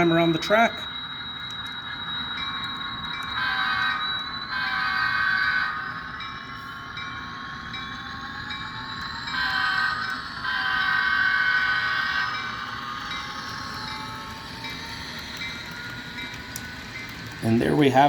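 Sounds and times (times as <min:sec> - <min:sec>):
whine rising in pitch: 0:00.0 - 0:18.0.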